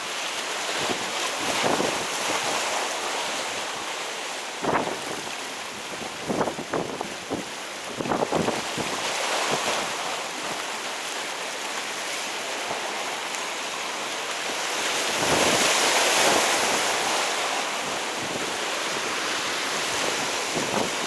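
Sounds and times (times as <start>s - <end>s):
waves washing on shore: 0.0s - 21.0s.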